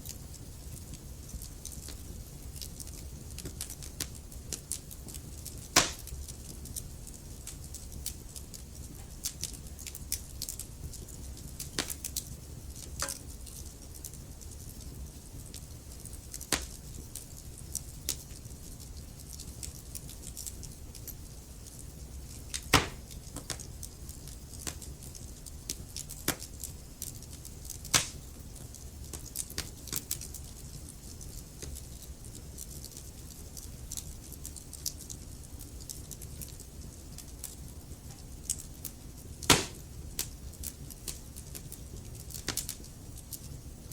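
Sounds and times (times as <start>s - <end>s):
low rumble of flame: 0.0s - 43.9s
wood fire pops and snaps: 0.0s - 43.9s.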